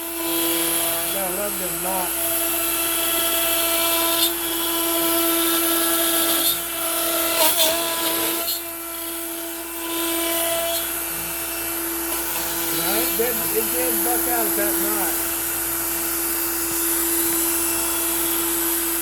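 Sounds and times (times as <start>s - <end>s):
router cutting wood whine: 0.0s - 19.0s.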